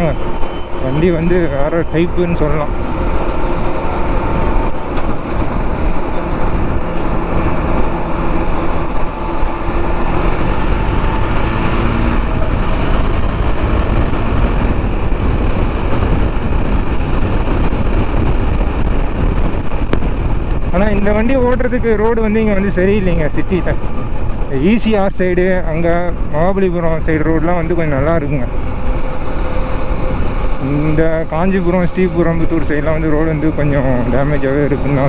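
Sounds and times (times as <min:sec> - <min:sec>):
motorcycle engine running: 0:00.0 - 0:35.0
wind rush and road noise: 0:00.0 - 0:35.0.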